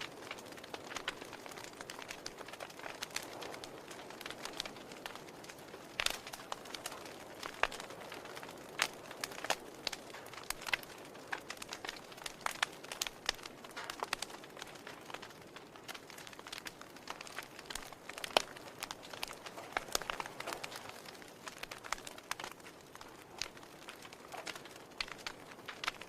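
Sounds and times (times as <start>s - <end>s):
firewood crackling: 0.0s - 26.0s
sharp snaps and pops: 0.0s - 26.0s.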